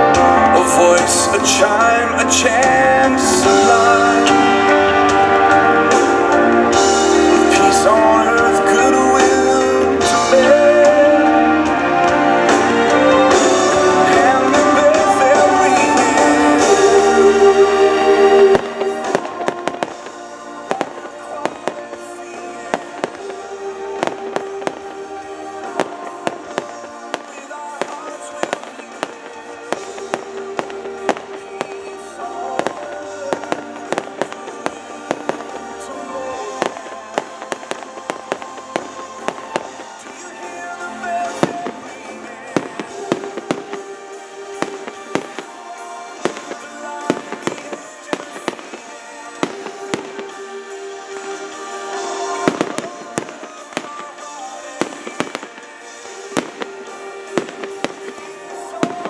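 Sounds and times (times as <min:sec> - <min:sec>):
fireworks bangs and crackles: 0:00.0 - 0:59.0
music playing: 0:00.0 - 0:59.0.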